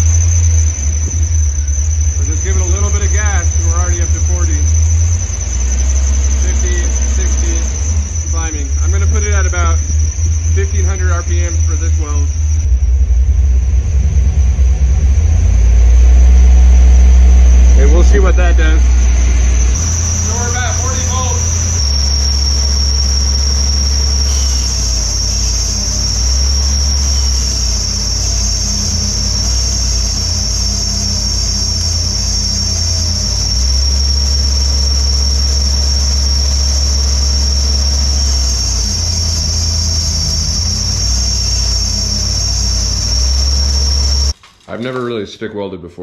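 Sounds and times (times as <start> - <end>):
welding arc crackling and hissing: 0.0 - 12.7, 17.8 - 44.4
engine idling: 0.0 - 44.4.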